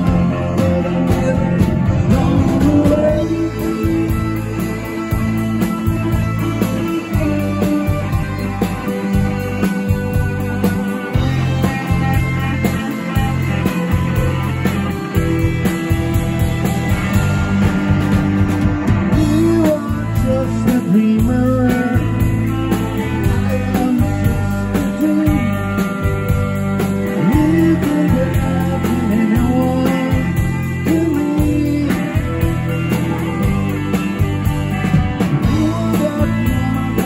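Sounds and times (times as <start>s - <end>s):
electric guitar bending notes: 0.0s - 37.0s
live rock band playing: 0.0s - 37.0s.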